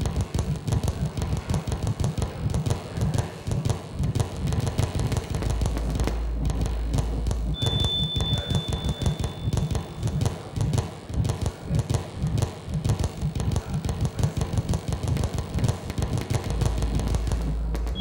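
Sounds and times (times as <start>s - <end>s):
deep steady hum: 0.0s - 18.0s
dense irregular glitch clicks: 0.0s - 18.0s
low thudding pulses: 0.0s - 18.0s.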